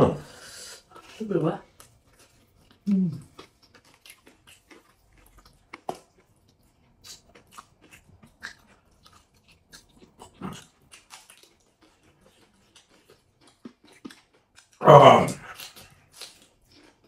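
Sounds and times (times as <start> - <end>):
chewing and crunching food: 0.1 - 17.0.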